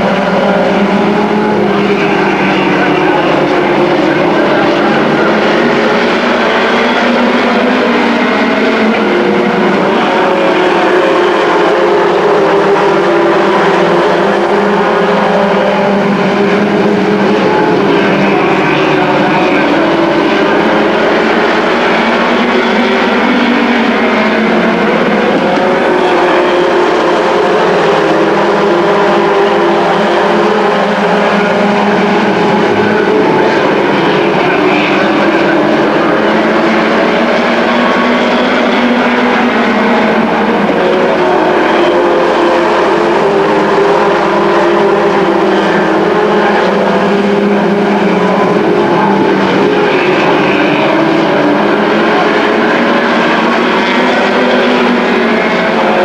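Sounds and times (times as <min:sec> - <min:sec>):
race truck engines: 0:00.0 - 0:56.0.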